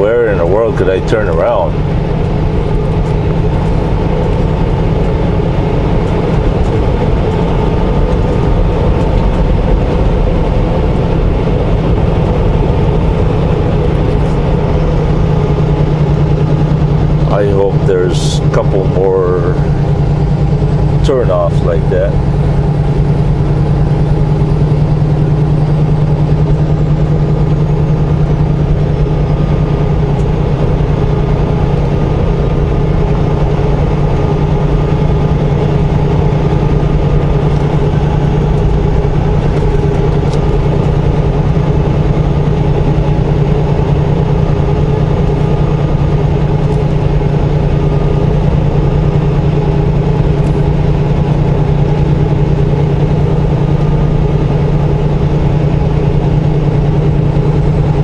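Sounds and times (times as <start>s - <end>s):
road noise: 0.0s - 58.0s
truck diesel engine drone: 0.0s - 58.0s.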